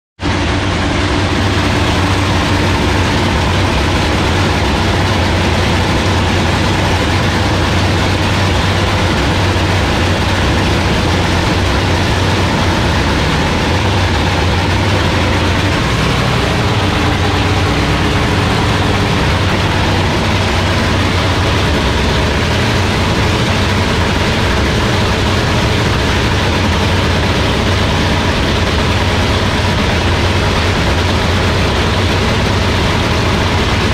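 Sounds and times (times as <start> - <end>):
dragster engine idling: 0.2 - 33.9.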